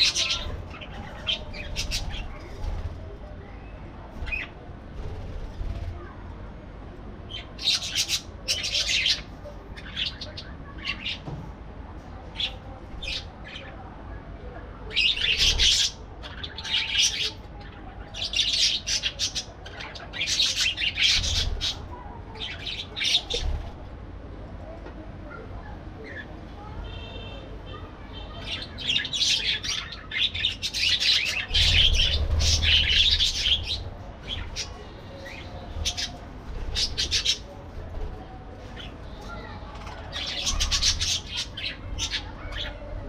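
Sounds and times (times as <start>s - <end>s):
parakeets chirping and chattering: 0.0s - 6.1s, 7.3s - 11.3s, 12.2s - 13.9s, 14.8s - 23.9s, 25.3s - 43.0s.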